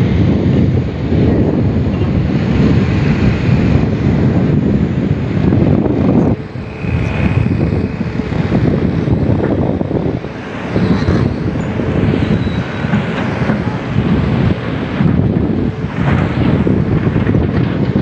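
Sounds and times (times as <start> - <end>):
excavator diesel engines rumbling: 0.0 - 18.0
wind buffeting microphone: 0.0 - 18.0.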